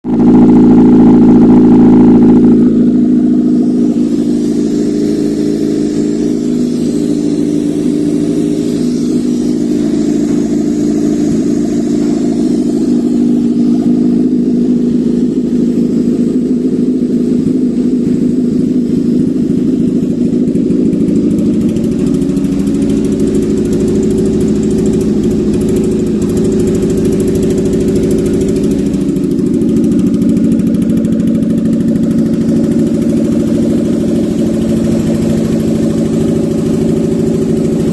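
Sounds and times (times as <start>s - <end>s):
four-cylinder engine idling: 0.0s - 37.9s.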